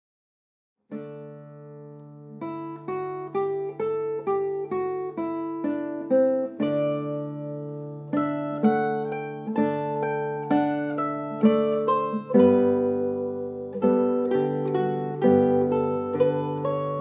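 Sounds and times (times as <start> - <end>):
plucked string instrument melody: 0.9 - 17.0.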